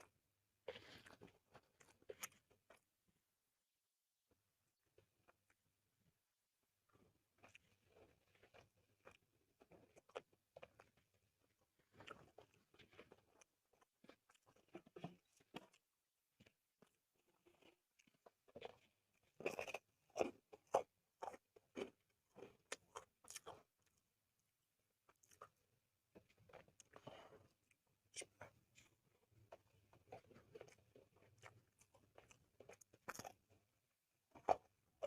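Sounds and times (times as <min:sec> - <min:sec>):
person chewing food: 0:00.0 - 0:03.0, 0:04.7 - 0:05.6, 0:06.8 - 0:35.0.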